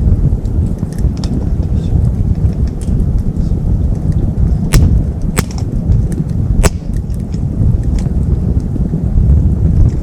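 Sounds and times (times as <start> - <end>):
fire popping: 0.0 - 10.0
steady low rumble: 0.0 - 10.0
wood fire crackling: 0.0 - 10.0.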